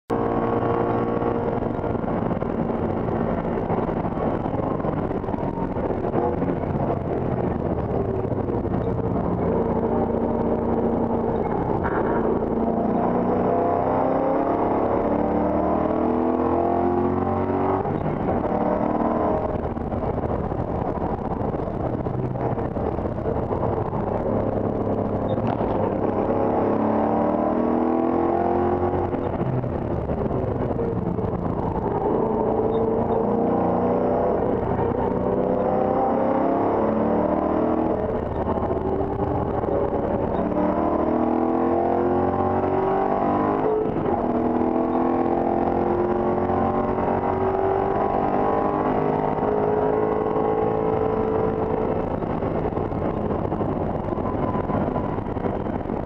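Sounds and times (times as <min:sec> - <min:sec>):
race car engine revving: 0:00.1 - 0:56.0.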